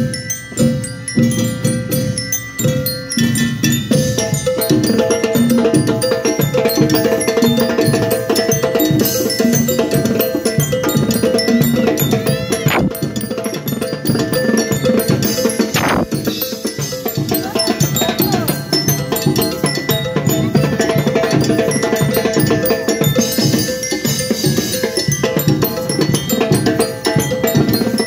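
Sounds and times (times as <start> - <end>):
bell lyres playing melody: 0.0 - 28.0
drums: 0.0 - 28.0.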